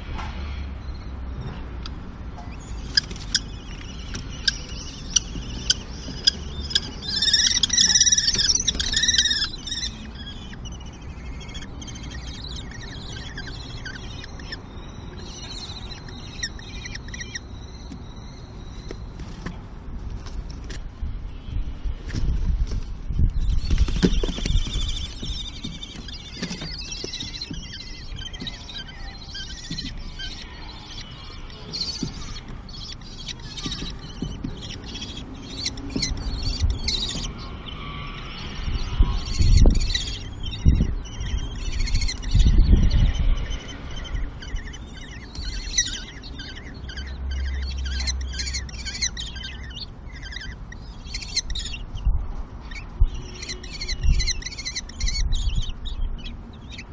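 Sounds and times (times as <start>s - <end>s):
kestrels high-pitched calls: 1.8s - 56.9s.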